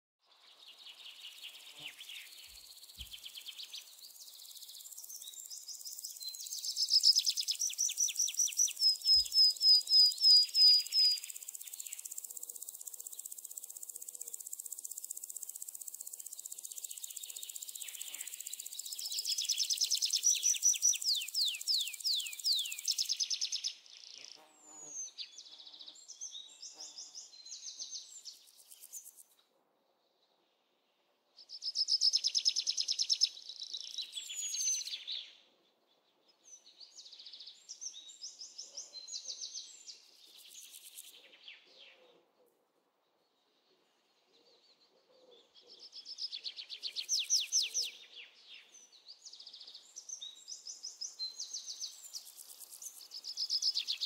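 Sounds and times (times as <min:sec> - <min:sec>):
wild birds singing: 0:00.3 - 0:29.2, 0:31.4 - 0:54.0.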